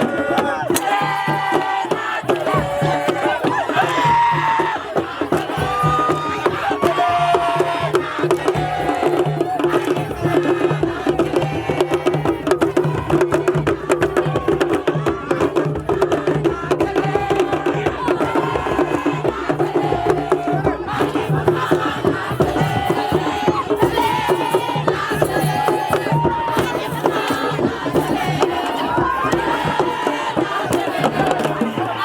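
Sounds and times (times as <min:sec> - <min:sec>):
music with fast percussion beat: 0:00.0 - 0:32.0.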